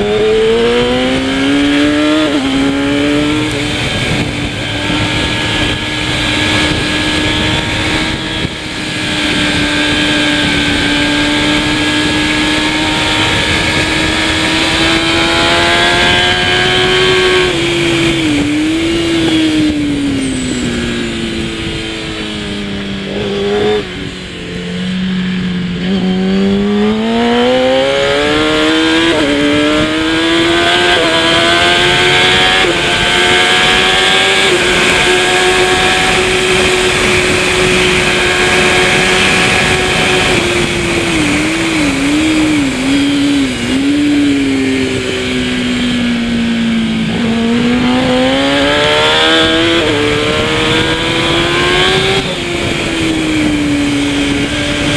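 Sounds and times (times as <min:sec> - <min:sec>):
motorcycle engine revving and shifting: 0:00.0 - 0:54.9.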